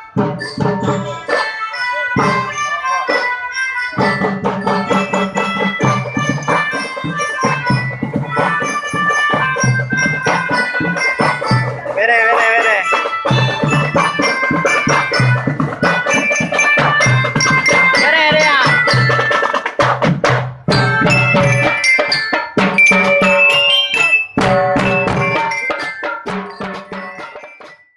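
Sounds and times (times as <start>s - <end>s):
steady drum beat: 0.0s - 27.7s
tuned percussion: 2.1s - 27.9s.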